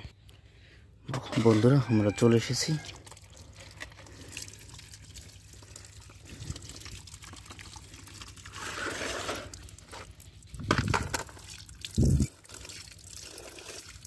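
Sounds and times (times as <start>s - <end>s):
water trickling and pouring: 1.4s - 14.0s.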